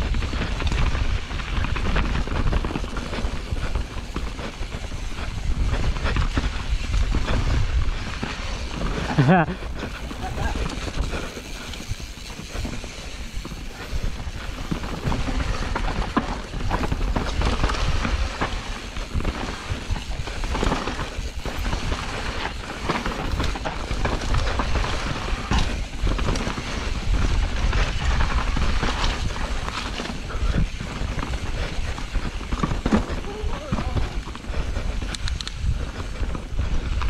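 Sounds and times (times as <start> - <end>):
bike knocking and rattling: 0.0 - 37.0
tyres rumbling over dirt and rock: 0.0 - 37.0.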